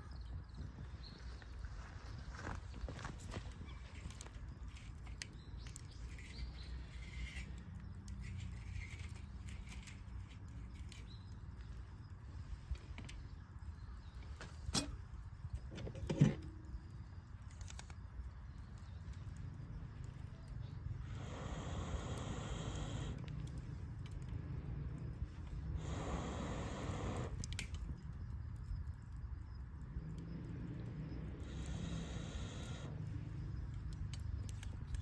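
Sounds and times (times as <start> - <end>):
campfire rumble: 0.0 - 35.0
fire crackles: 0.0 - 35.0.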